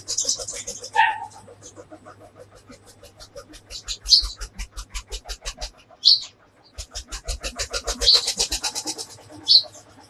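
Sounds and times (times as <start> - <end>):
rapid even pulsing: 0.0 - 10.0.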